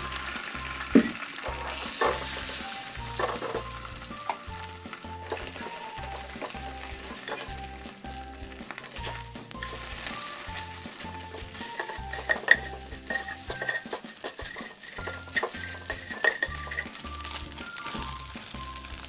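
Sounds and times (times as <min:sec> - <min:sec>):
background music: 0:00.0 - 0:19.0
eggs sizzling in frying pan: 0:00.0 - 0:19.0
spatula scraping and tapping pan: 0:01.0 - 0:19.0.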